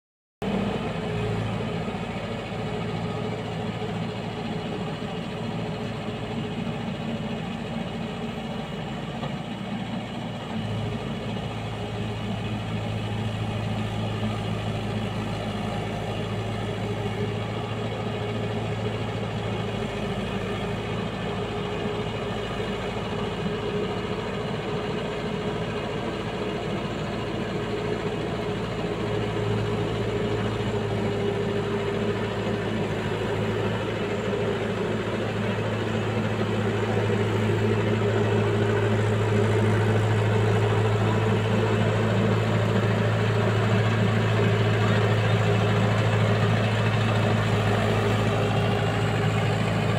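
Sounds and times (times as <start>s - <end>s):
tractor diesel engine under load: 0.4s - 49.9s.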